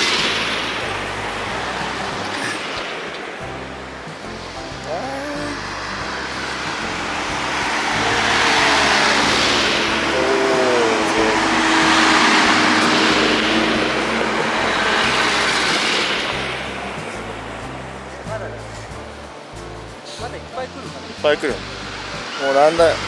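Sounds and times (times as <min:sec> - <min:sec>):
vehicles driving past: 0:00.0 - 0:23.0.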